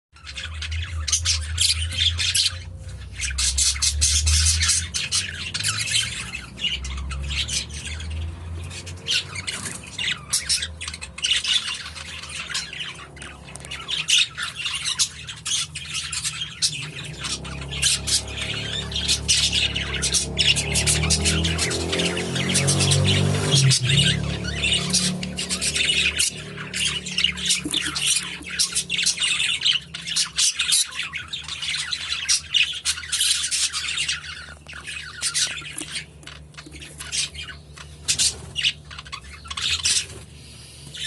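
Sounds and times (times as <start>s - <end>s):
budgerigars chirping and squawking: 0.2s - 41.0s.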